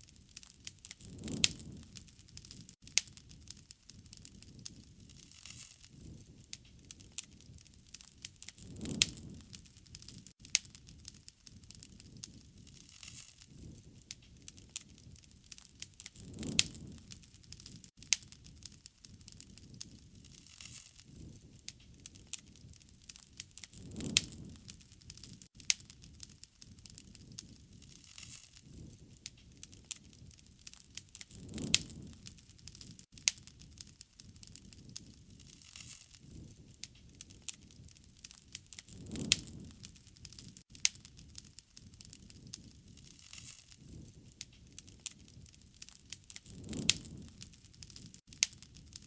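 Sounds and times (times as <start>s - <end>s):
soft rush of flame: 0.0s - 49.0s
wood fire crackling and popping: 0.0s - 49.0s.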